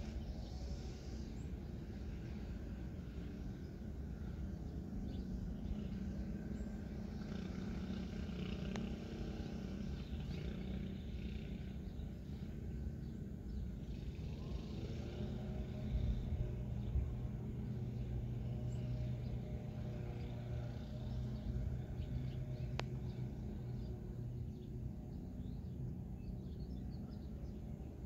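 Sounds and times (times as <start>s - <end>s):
faint hum: 0.0s - 28.0s
low background rumble: 0.0s - 28.0s.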